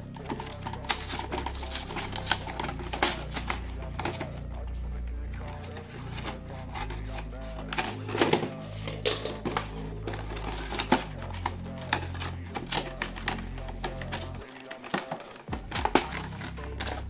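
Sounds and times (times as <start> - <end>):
cardboard flaps crackling: 0.0 - 4.7, 5.4 - 17.0.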